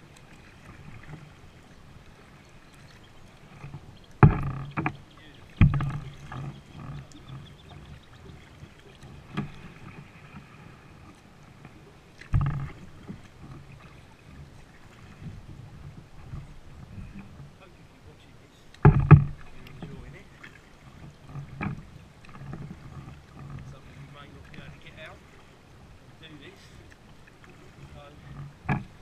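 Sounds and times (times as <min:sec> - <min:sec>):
knocks and splashes: 0:00.0 - 0:17.6, 0:18.7 - 0:25.5, 0:26.8 - 0:29.0
paddle blades dipping and dripping: 0:00.0 - 0:29.0.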